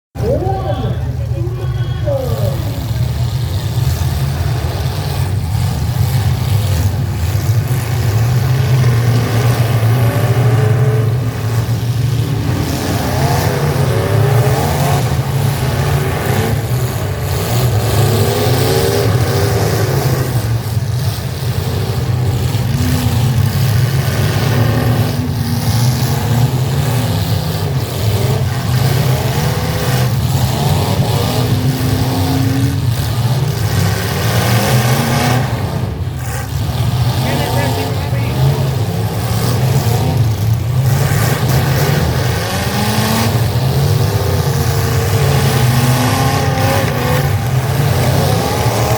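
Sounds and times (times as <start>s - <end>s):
truck engines revving: 0.1s - 48.9s.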